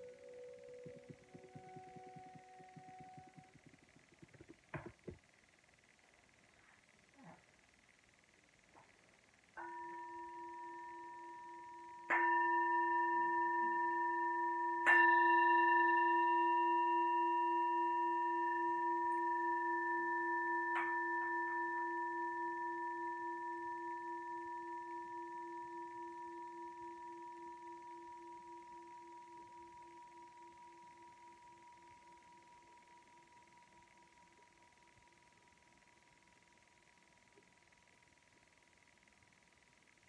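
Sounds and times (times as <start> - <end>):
singing bowl ringing: 0.0 - 4.9, 9.6 - 37.2.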